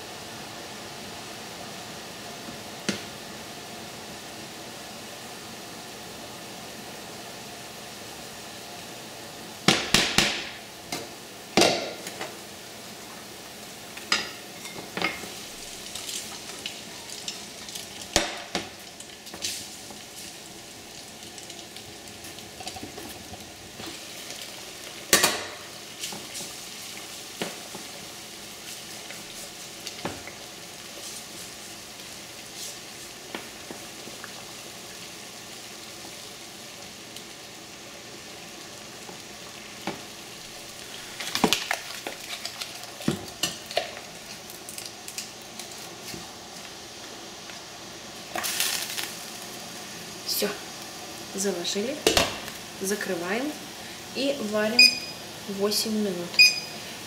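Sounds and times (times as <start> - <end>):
food sizzling in a frying pan: 0.0 - 57.0.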